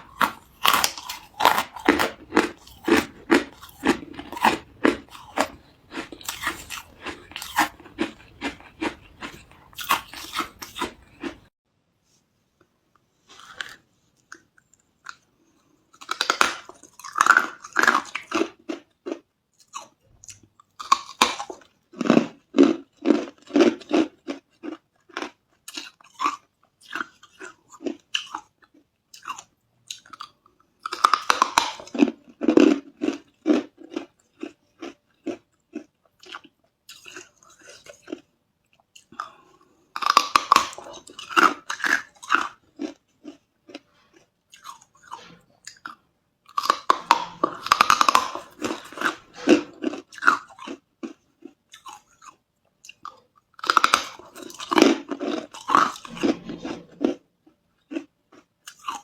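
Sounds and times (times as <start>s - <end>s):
ice being chewed: 0.0s - 11.5s, 13.3s - 59.0s.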